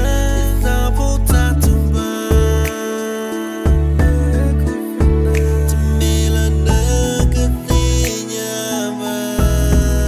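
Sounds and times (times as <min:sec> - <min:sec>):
music with bass and chords: 0:00.0 - 0:10.0.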